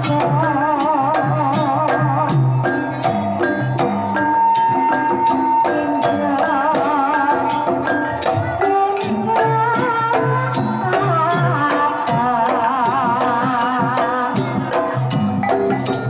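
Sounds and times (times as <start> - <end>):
woman singing with vibrato: 0.0 - 2.6, 4.4 - 15.0
gamelan ensemble playing: 0.0 - 16.0.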